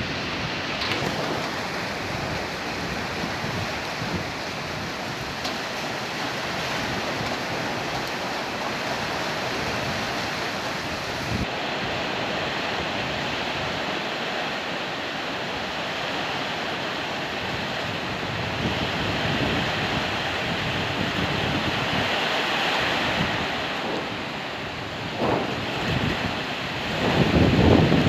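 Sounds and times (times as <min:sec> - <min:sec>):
gusting wind: 0:00.0 - 0:28.0
steady rain hiss: 0:00.0 - 0:28.0
wind buffeting microphone: 0:00.0 - 0:28.0.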